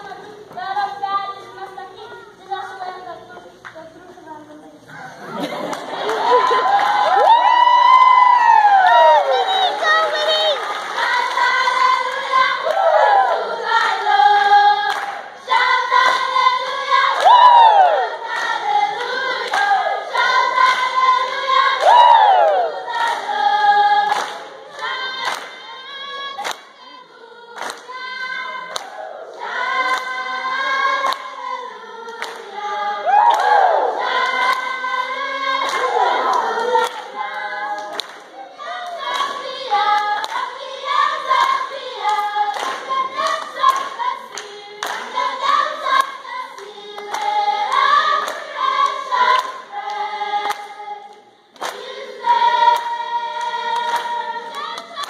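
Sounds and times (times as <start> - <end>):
children's choir singing a cappella: 0.0 - 55.0.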